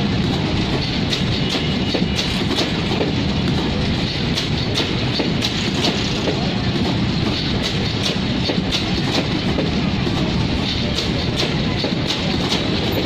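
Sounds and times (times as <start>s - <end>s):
wheels clicking over rail joints: 0.1s - 13.0s.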